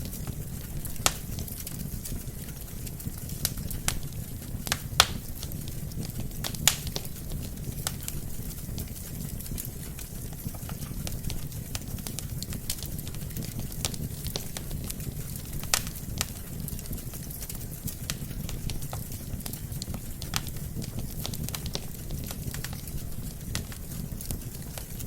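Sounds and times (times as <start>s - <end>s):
burning logs crackling and popping: 0.0s - 25.0s
fire rumbling: 0.0s - 25.0s.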